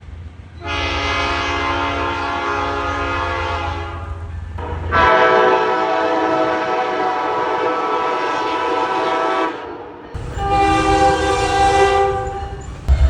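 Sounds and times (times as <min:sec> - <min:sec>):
train air horn chord: 0:00.6 - 0:13.0.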